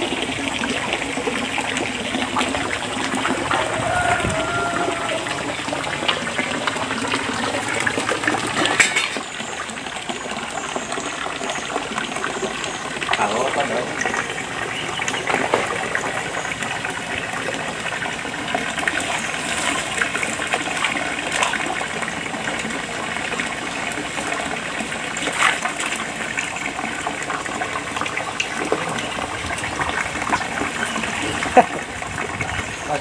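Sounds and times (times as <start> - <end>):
water gushing into pool: 0.0 - 33.0.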